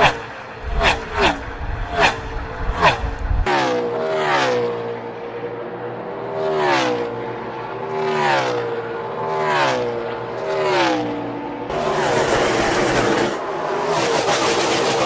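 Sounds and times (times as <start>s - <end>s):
race cars passing by: 0.0s - 15.0s.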